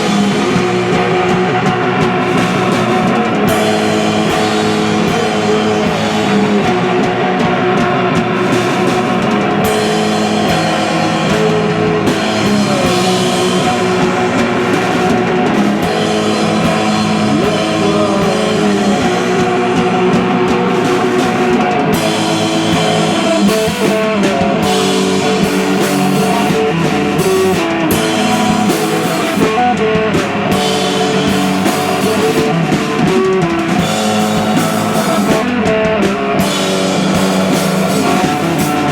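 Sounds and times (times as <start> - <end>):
guitar notes bending: 0.0 - 38.9
live rock band playing: 0.0 - 38.9.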